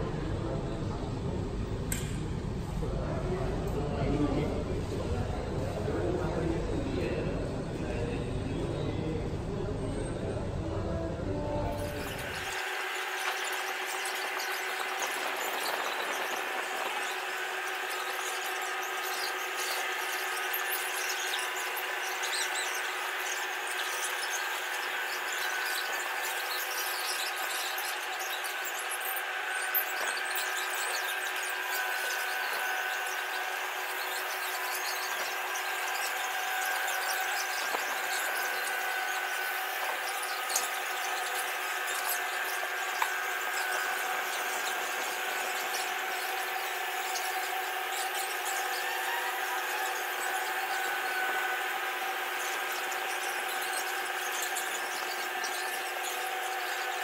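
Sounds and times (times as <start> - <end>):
rotating platform motor squealing: 5.0 - 57.0.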